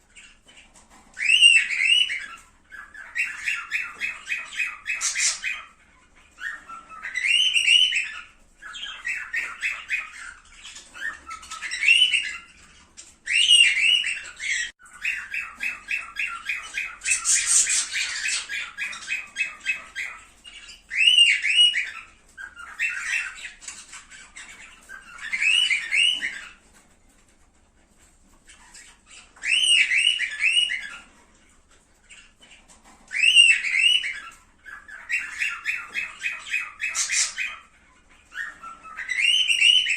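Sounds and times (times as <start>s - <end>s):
cockatiels chattering: 0.0s - 39.9s
cockatiel whistled calls: 1.1s - 26.6s, 28.5s - 31.1s, 33.1s - 39.9s.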